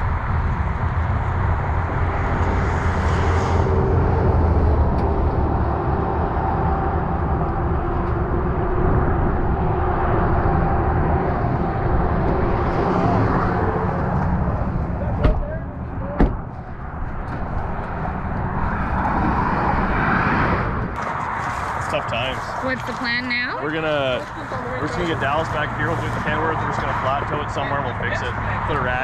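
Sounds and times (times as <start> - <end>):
vehicle rumble: 0.0 - 29.0.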